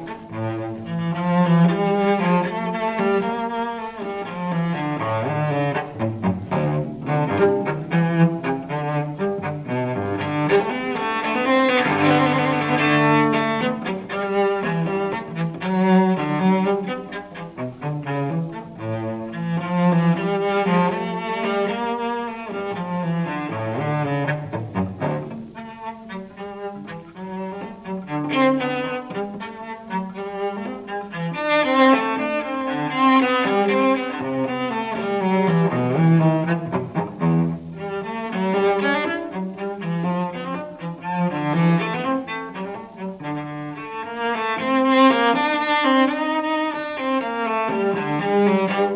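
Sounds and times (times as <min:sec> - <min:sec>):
bowed cello melody: 0:00.0 - 0:48.9.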